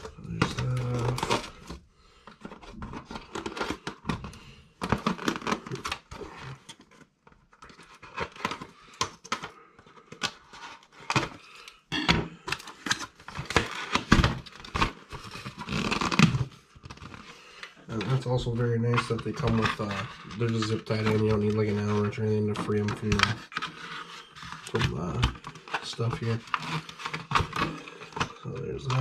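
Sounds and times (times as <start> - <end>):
plastic and cardboard crinkling: 0.0 - 29.0.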